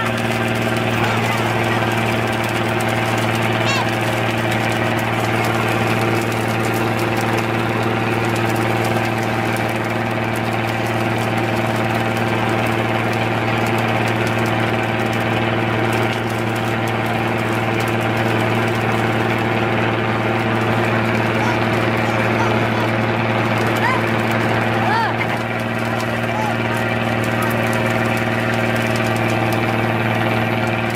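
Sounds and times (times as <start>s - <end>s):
boat engine humming: 0.0s - 30.9s.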